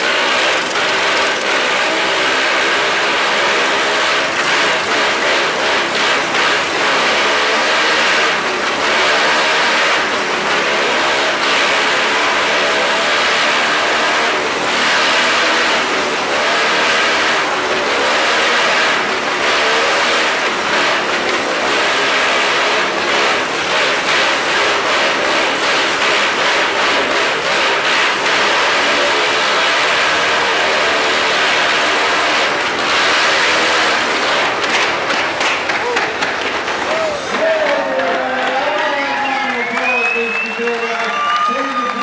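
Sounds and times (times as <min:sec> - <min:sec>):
motorcycle and kart engines revving: 0:00.0 - 0:42.0.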